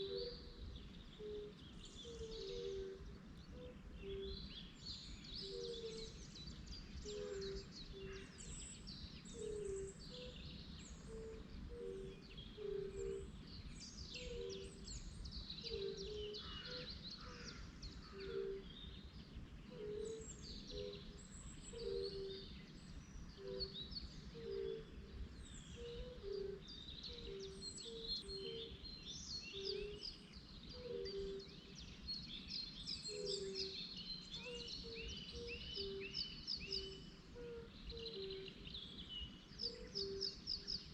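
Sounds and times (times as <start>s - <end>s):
birds dawn chorus: 0.0s - 40.9s.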